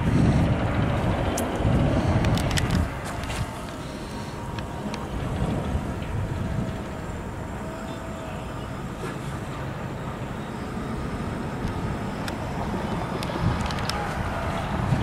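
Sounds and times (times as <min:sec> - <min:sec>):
wind on microphone: 0:00.0 - 0:08.4, 0:09.4 - 0:15.0
road traffic rumbling: 0:00.0 - 0:15.0.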